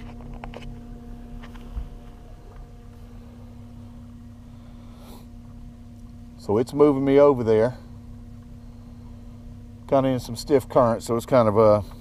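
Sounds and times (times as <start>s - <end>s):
trolling motor humming: 0.0s - 12.0s.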